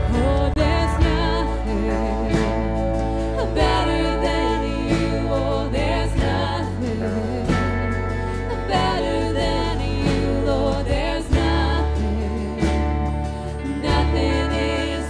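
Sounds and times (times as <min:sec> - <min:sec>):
band playing worship music: 0:00.0 - 0:15.0
person singing: 0:00.0 - 0:15.0.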